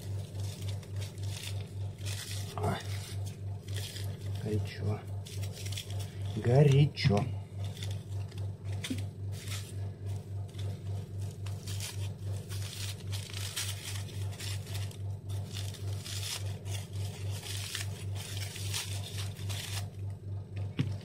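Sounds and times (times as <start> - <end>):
aluminium foil crinkling: 0.0 - 20.1
loud throbbing low hum: 0.0 - 21.0.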